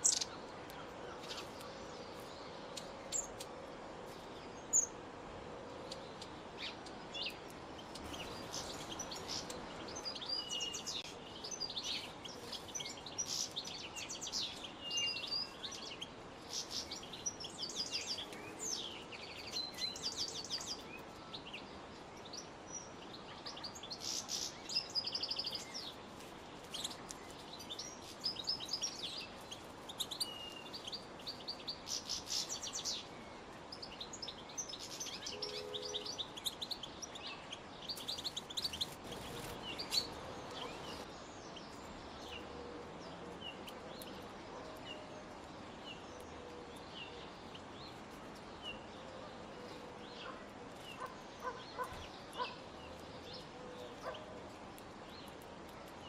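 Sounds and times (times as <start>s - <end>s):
faint background hiss: 0.0s - 56.0s.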